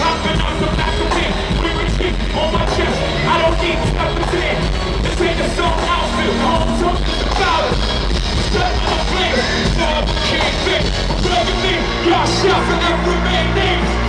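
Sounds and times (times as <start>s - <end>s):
heavy bass hip-hop music: 0.0s - 14.0s
rapper's vocals: 0.0s - 14.0s.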